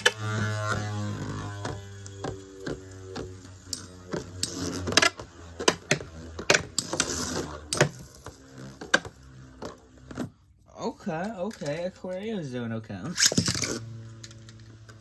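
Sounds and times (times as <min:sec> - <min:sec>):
light whirring: 0:00.0 - 0:15.0.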